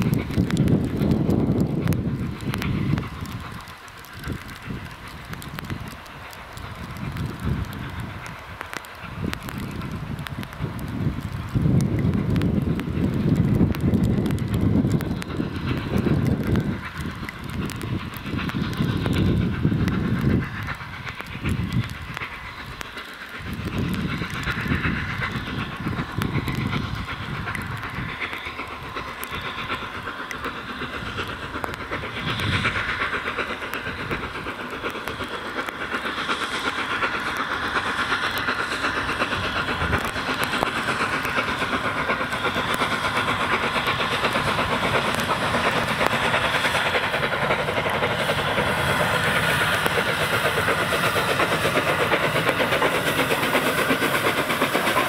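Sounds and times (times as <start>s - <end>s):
train rumbling on rails: 0.0s - 55.0s
wheels rolling over rail joints: 0.0s - 55.0s.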